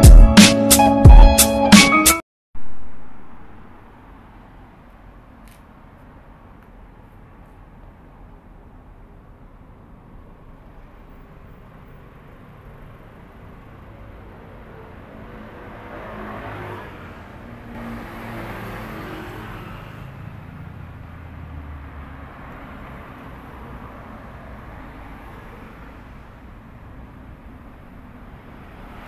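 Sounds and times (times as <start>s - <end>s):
vehicle engine and road rumble: 2.6s - 29.0s.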